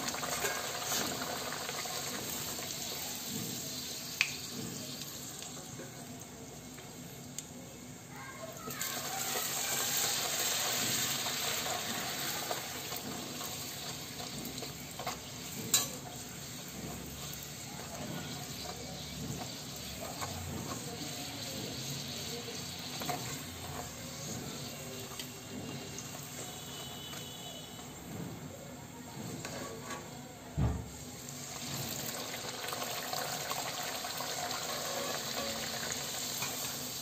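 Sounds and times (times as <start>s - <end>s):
bread deep-frying in hot oil: 0.0s - 37.0s.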